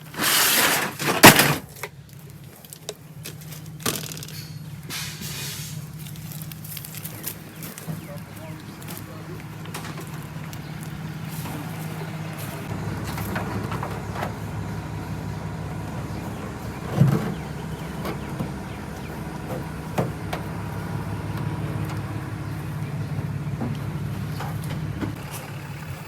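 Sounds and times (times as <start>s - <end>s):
vehicle engine idling: 1.8s - 26.0s.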